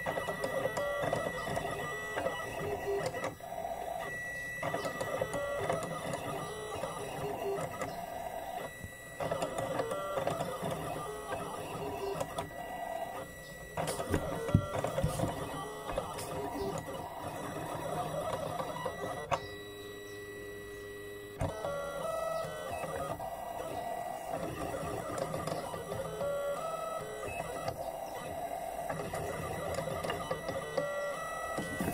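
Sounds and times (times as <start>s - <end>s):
cutting plotter motors whirring: 0.0s - 31.9s.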